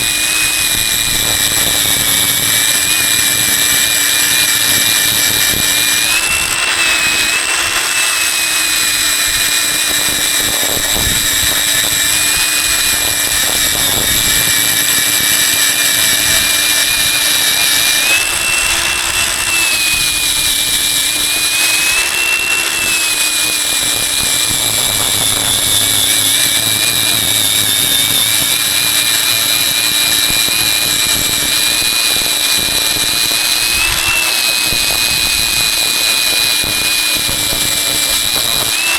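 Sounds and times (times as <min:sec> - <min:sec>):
power tool motor whining: 0:00.0 - 0:38.9.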